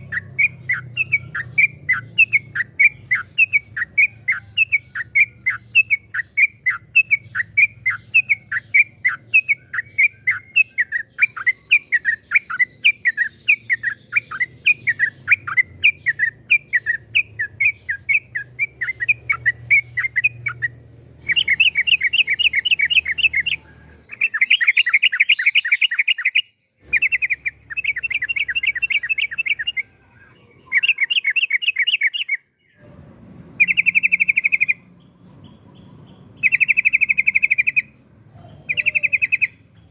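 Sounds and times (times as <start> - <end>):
bulbul chirping and trilling: 0.0 - 32.5, 33.6 - 39.9.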